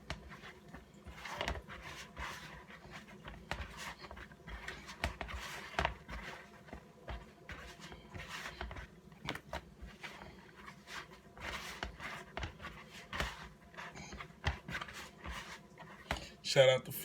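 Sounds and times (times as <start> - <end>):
hands kneading dough: 0.0 - 16.4.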